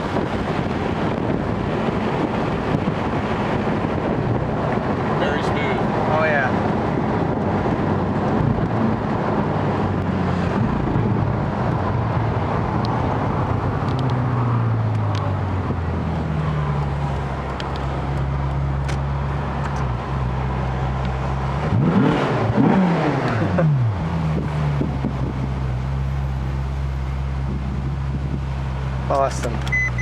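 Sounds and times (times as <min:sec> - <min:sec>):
car engine cruising: 0:00.0 - 0:30.0
road and tyre noise: 0:00.0 - 0:30.0.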